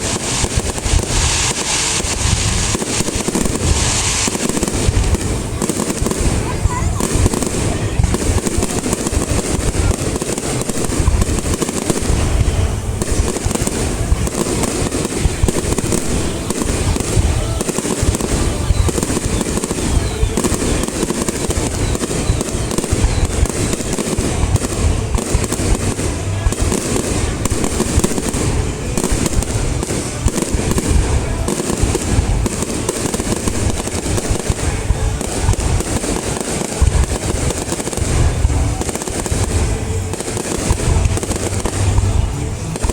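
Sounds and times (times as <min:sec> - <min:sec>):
fireworks booming and crackling: 0:00.0 - 0:42.9.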